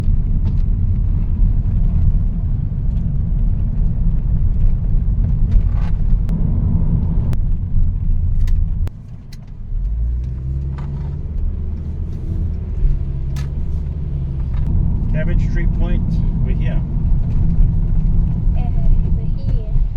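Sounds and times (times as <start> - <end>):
car engine and road rumble: 0.0 - 19.9.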